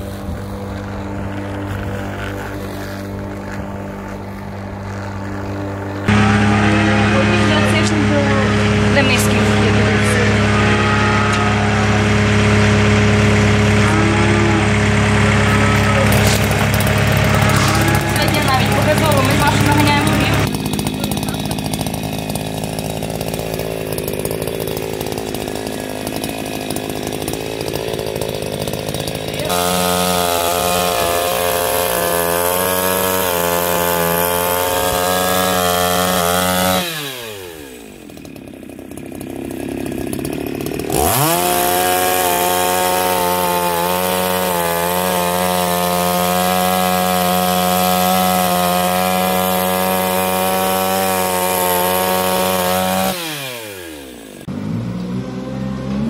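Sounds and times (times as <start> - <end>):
chainsaw sawing through branch: 0.0 - 56.0.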